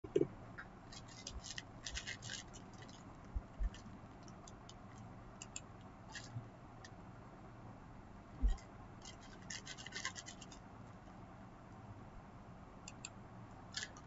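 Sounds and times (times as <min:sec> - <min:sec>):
faint scratching and clicking: 0:00.0 - 0:07.0, 0:08.4 - 0:11.8, 0:12.9 - 0:14.0.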